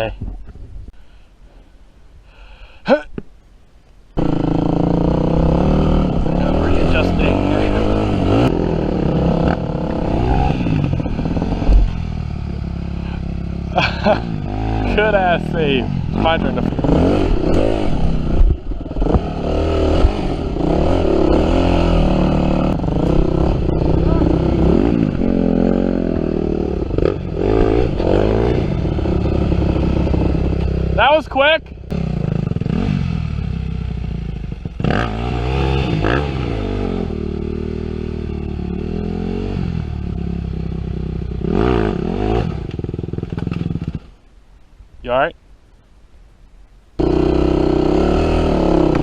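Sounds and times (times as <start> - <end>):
dirt bike engine revving: 4.2 - 44.1, 47.0 - 49.0.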